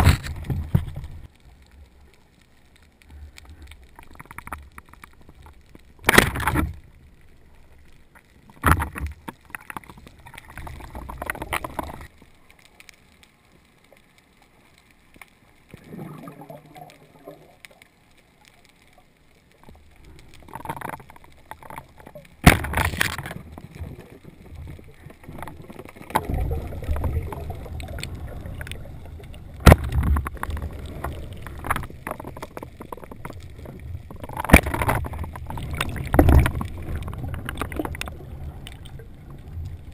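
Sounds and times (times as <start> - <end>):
underwater water rushing and gurgling: 0.0 - 39.9.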